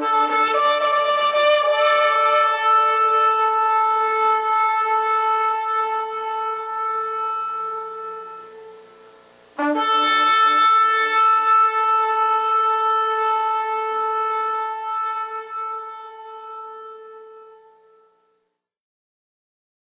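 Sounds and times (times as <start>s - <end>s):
shofar blasts: 0.0s - 18.4s.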